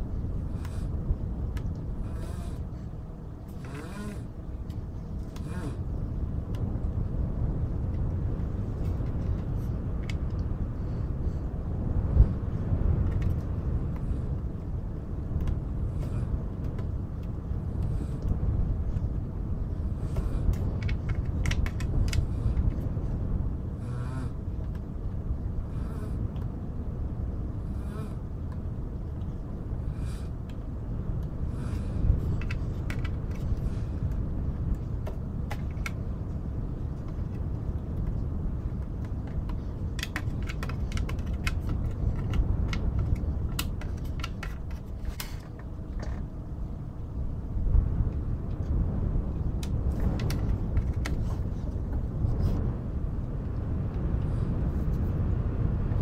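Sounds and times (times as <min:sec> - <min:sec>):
low wind rumble: 0:00.0 - 0:56.0.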